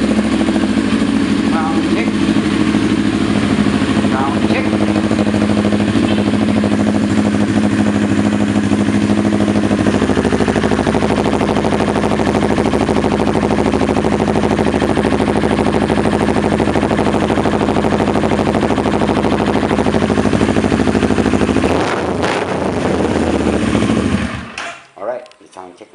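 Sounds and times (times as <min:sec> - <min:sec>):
motorcycle engine idling: 0:00.0 - 0:24.7.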